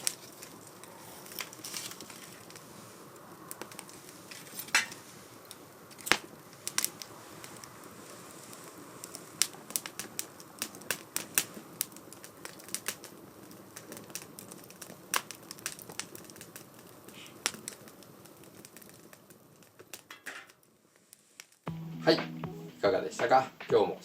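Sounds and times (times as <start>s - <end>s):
low rush of flame: 0.0s - 20.0s
wood fire crackling: 0.0s - 24.0s.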